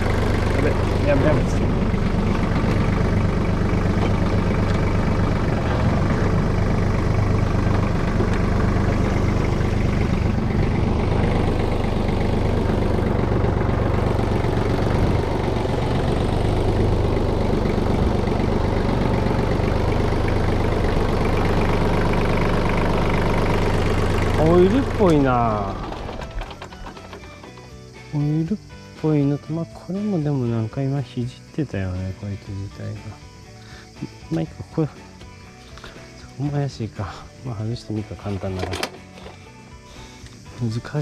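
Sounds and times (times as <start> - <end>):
tractor diesel engine idling: 0.0 - 41.0.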